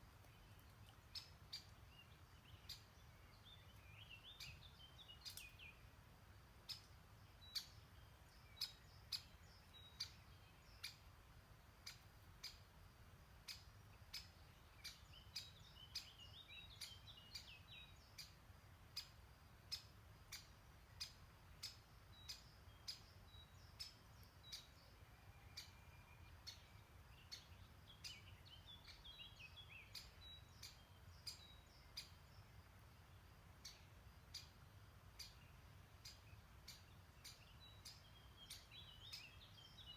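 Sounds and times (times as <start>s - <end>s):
faint songbird twittering: 0.0s - 6.0s, 6.6s - 12.7s, 13.4s - 39.9s.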